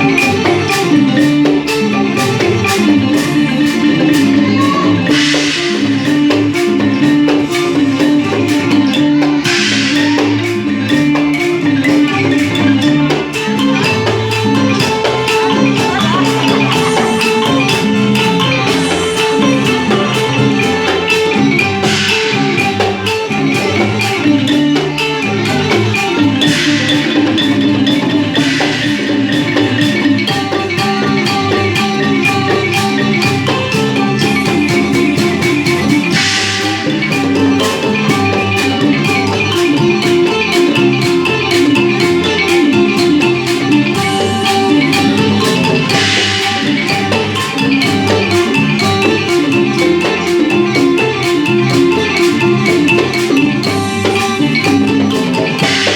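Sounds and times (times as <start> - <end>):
drum and percussion: 0.0 - 55.9
log xylophone folk dance music: 0.0 - 55.9.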